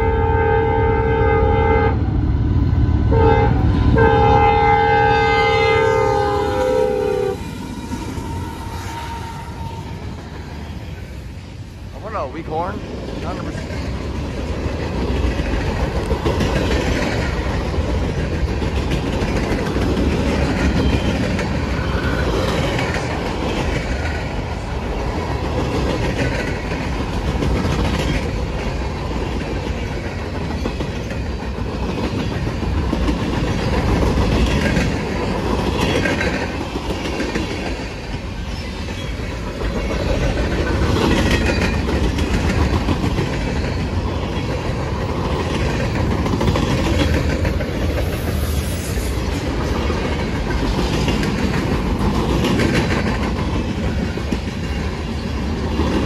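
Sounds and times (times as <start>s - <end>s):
freight train rumbling past: 0.0s - 56.0s
steel wheels clacking on rails: 5.2s - 56.0s.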